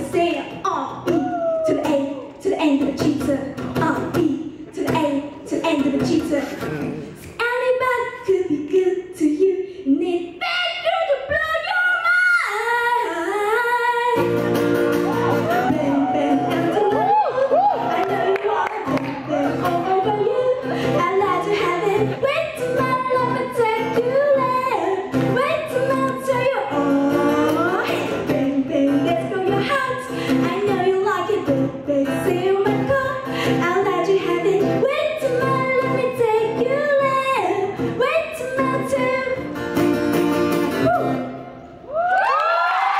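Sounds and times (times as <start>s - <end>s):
woman singing: 0.0s - 6.7s, 7.3s - 39.6s
guitar accompaniment: 0.0s - 8.9s, 12.5s - 41.9s.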